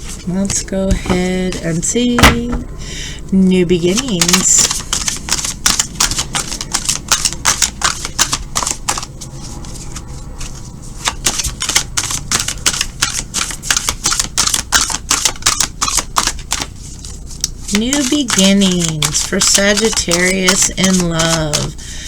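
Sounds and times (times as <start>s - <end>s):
cards being shuffled: 0.0s - 2.6s, 3.9s - 21.8s.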